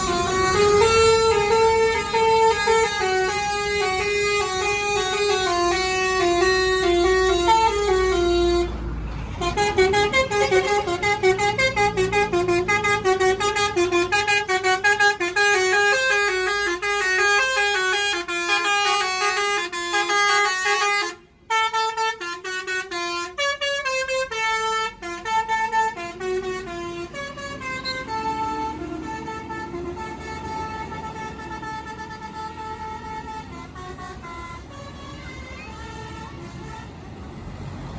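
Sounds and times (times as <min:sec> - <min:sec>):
low engine rumble: 0:00.0 - 0:37.9
multi-tone musical bus horn: 0:00.0 - 0:37.9.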